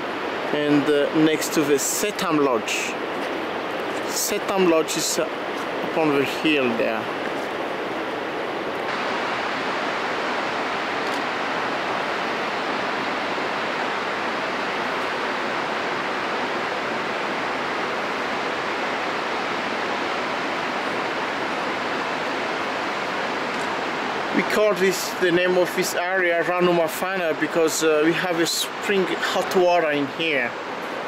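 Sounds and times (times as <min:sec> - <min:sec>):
fast-flowing river rushing: 0:00.0 - 0:31.0.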